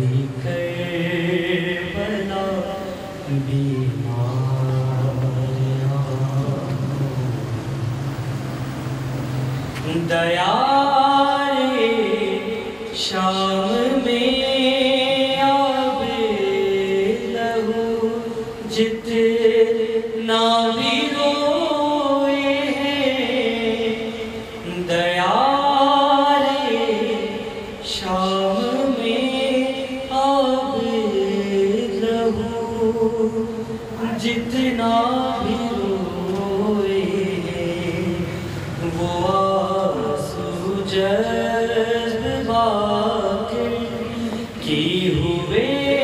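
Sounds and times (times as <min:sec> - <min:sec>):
man chanting a lament: 0:00.0 - 0:07.9, 0:09.8 - 0:46.0.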